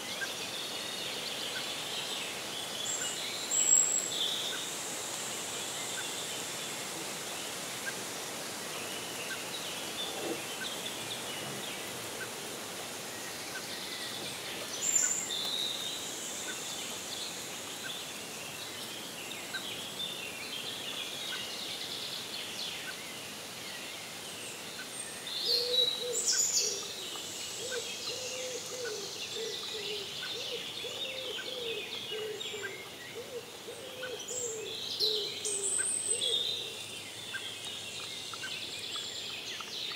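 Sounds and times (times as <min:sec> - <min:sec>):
background hiss: 0:00.0 - 0:39.9
songbirds singing and calling: 0:00.0 - 0:39.9.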